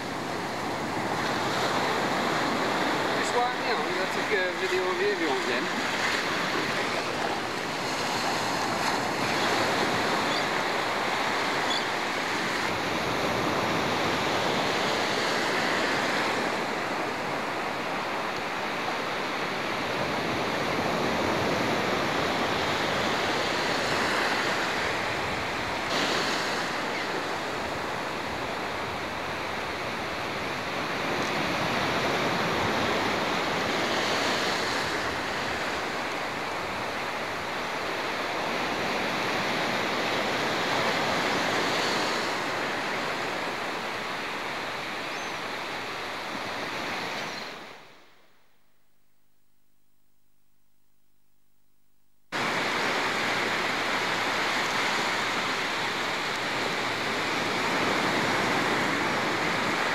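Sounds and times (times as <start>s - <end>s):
surf washing onto beach: 0.0s - 48.0s, 52.3s - 59.9s.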